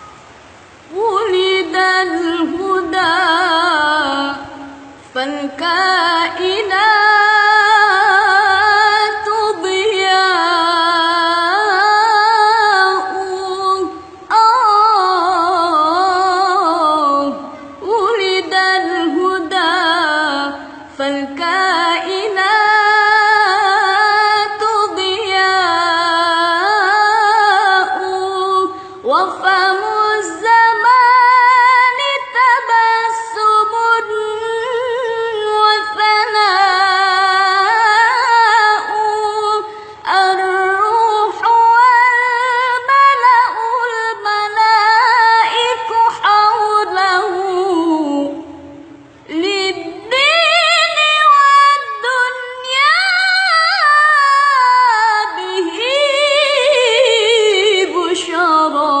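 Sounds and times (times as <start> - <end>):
woman singing devotional song: 0.0 - 59.0.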